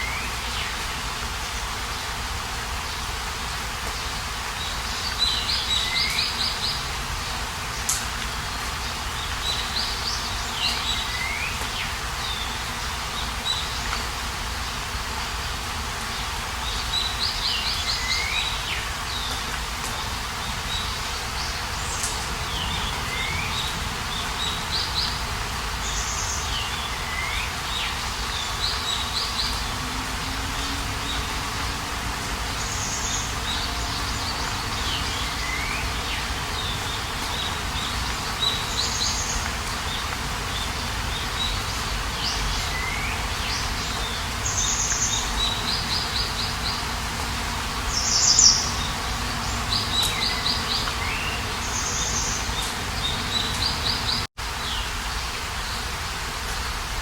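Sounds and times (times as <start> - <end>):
songbird singing: 0.0 - 3.2, 3.8 - 55.9.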